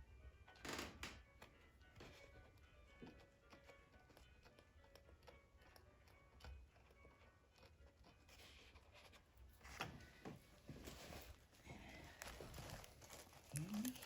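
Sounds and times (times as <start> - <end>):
faint crinkling and scratching: 1.6 - 14.0.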